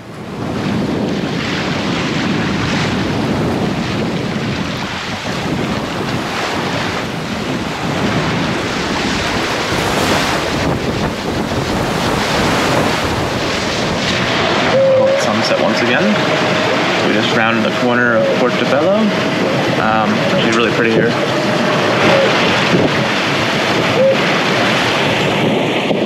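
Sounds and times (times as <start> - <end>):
water splashing along a hull: 0.0 - 26.0
wind buffeting on microphone: 0.0 - 26.0.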